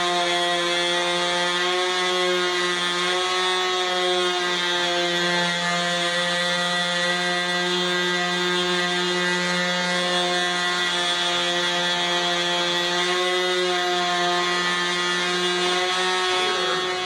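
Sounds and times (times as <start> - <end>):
model airplane engine buzzing: 0.0 - 17.0.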